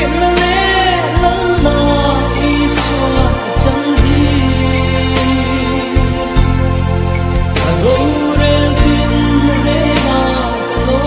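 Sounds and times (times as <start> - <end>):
bass line: 0.0 - 11.0
gospel song with band: 0.0 - 11.0.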